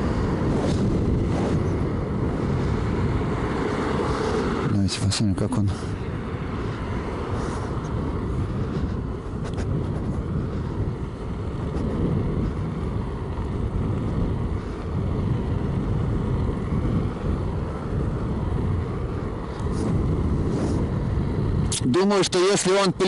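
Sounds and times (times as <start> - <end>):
road rumble: 0.0 - 23.0
wind rush: 0.0 - 23.0.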